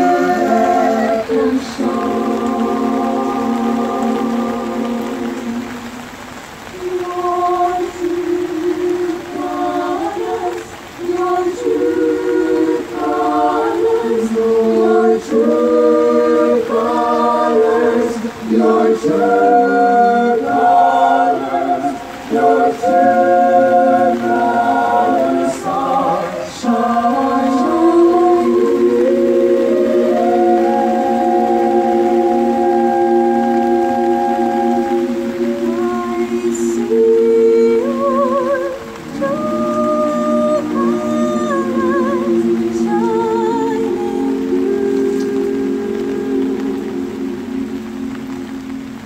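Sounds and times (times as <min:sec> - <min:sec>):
choir singing a cappella: 0:00.0 - 0:49.0.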